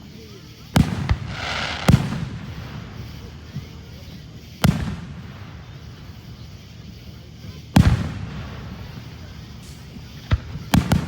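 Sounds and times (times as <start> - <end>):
fireworks banging: 0.4 - 11.0.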